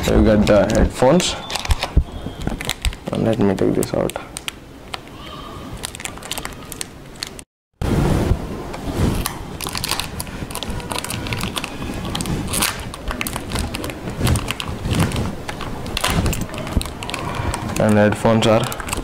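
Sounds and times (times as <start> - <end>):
packaging crinkling and rustling: 0.0 - 5.1, 5.8 - 7.5, 9.0 - 19.0.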